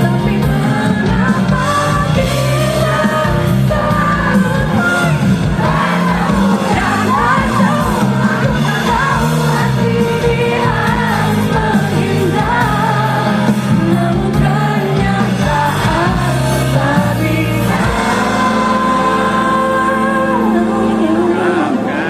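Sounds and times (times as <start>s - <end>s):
live pop band with bass: 0.0s - 22.0s
woman singing: 0.0s - 22.0s.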